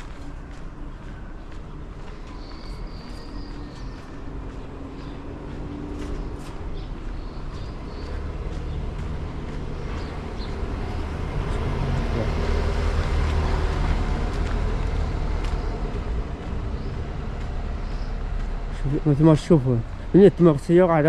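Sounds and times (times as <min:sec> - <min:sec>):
car passing on dirt road: 0:00.0 - 0:21.0.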